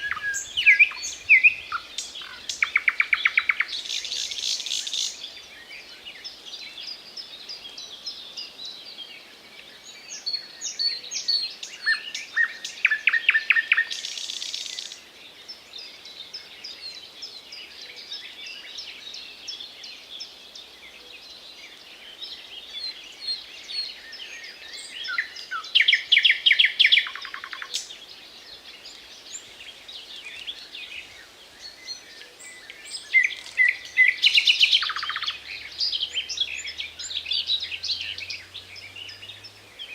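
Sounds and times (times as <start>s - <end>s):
nightingale singing: 0.0s - 39.9s
small birds twittering: 0.0s - 39.9s.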